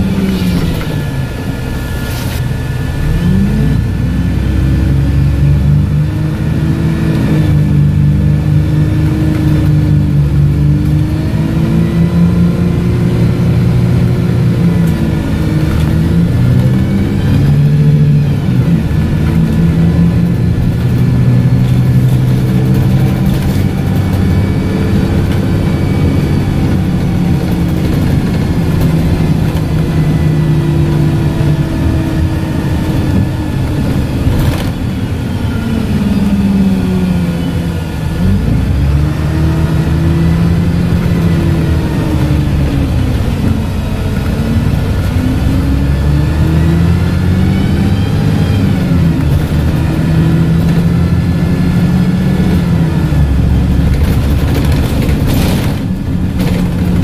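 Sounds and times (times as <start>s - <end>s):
bus engine and transmission whine: 0.0s - 57.0s.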